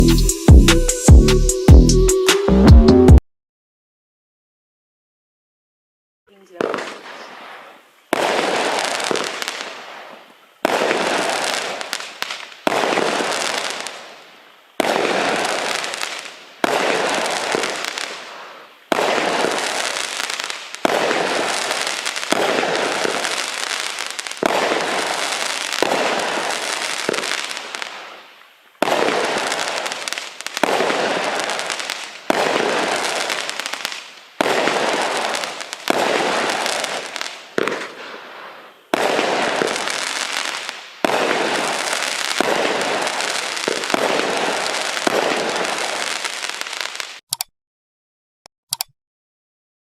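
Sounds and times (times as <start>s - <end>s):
firework shots crackling: 6.3s - 47.2s.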